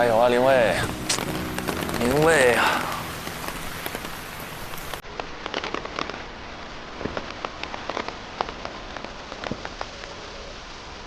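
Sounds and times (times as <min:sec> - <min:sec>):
rain falling: 0:00.0 - 0:11.0
raindrops pattering on surfaces: 0:00.0 - 0:11.0.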